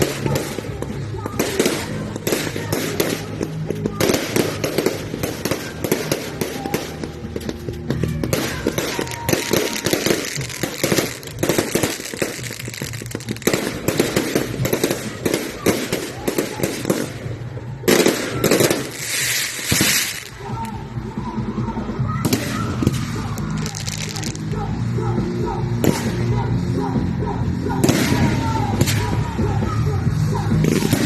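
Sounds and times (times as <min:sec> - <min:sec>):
fireworks bangs: 0:00.0 - 0:20.8, 0:22.2 - 0:24.4, 0:25.7 - 0:26.4, 0:27.8 - 0:31.0
fireworks crackling and popping: 0:00.0 - 0:21.2, 0:21.8 - 0:27.2, 0:27.8 - 0:31.0.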